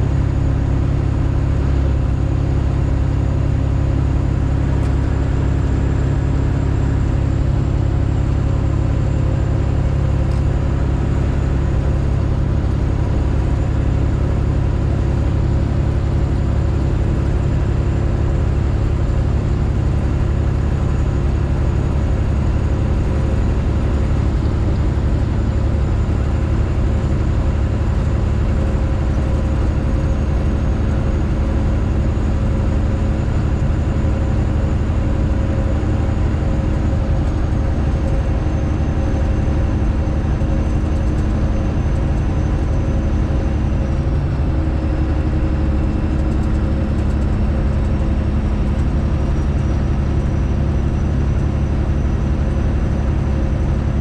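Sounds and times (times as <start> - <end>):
truck diesel exhaust drone: 0.0 - 54.0.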